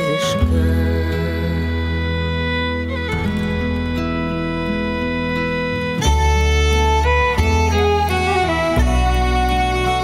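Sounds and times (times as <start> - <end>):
folk melody with sliding ornaments: 0.0 - 10.0
sustained low bass notes: 0.0 - 10.0.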